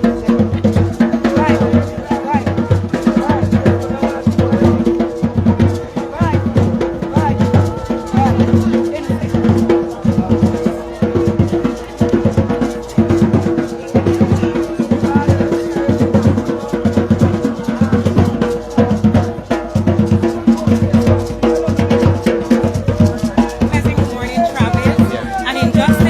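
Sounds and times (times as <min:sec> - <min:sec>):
music with drum beat and bass: 0:00.0 - 0:26.0.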